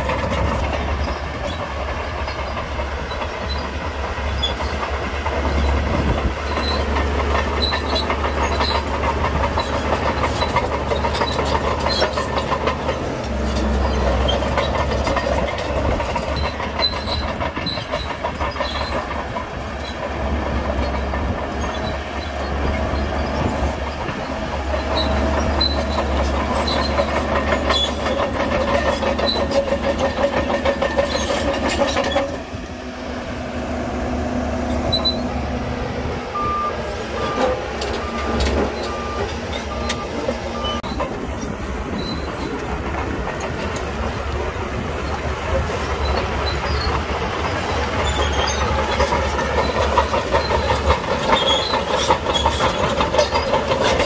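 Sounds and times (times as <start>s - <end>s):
bulldozer engine running: 0.0s - 54.0s
clatter of steel tracks: 0.0s - 54.0s.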